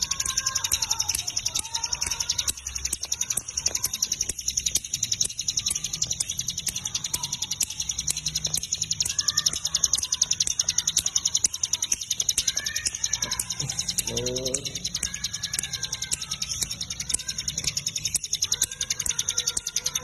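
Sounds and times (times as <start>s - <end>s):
bird chattering high chips: 0.0s - 20.0s.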